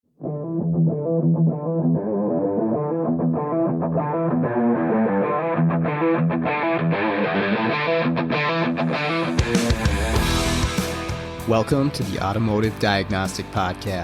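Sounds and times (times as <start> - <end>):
electric guitar rock riff: 0.2 - 14.0.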